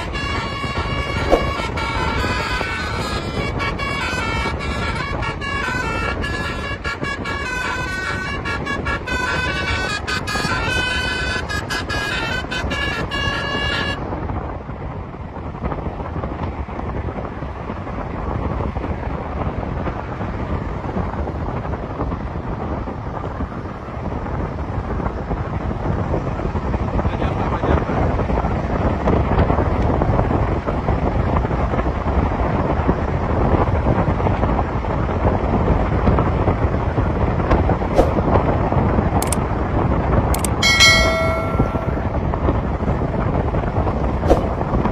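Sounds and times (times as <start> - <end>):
wind on microphone: 0.0 - 44.9.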